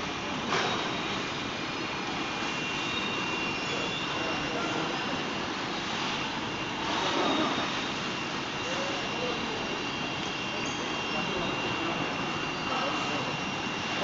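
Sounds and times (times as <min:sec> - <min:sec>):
factory machinery noise: 0:00.0 - 0:14.0
roller conveyors running: 0:00.0 - 0:14.0
thin high whine: 0:00.0 - 0:14.0.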